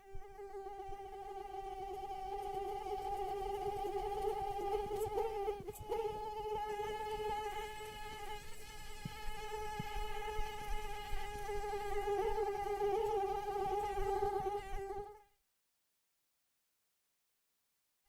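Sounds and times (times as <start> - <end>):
mosquito whining hum: 0.0 - 15.3.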